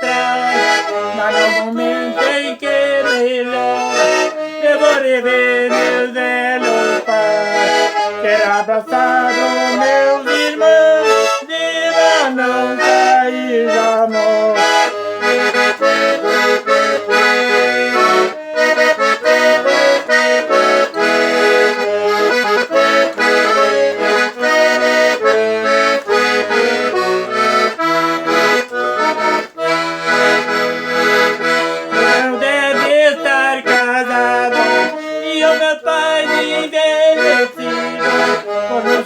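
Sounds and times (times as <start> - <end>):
accordion playing melody: 0.0 - 39.0.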